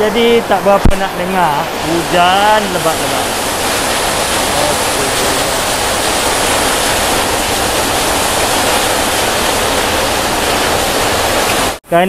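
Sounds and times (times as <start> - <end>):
heavy rain on a metal roof: 0.0 - 11.8.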